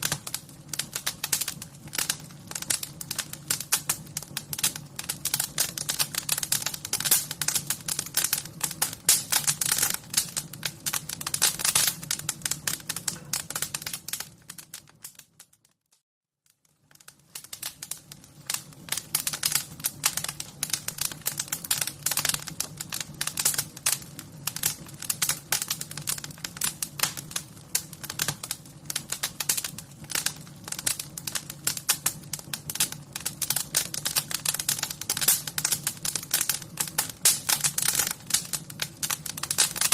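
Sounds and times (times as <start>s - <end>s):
wood fire crackling and popping: 0.0s - 15.8s, 16.4s - 39.9s.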